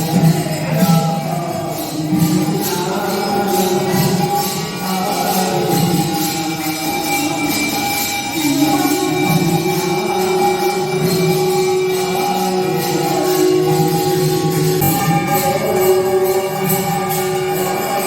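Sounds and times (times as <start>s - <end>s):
devotional chant singing: 0.0s - 18.0s
jingling percussion: 0.0s - 18.0s.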